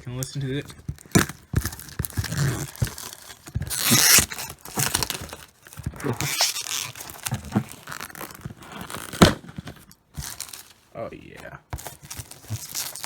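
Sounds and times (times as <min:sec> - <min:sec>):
plastic packaging crinkling: 0:00.9 - 0:10.9, 0:11.8 - 0:13.0.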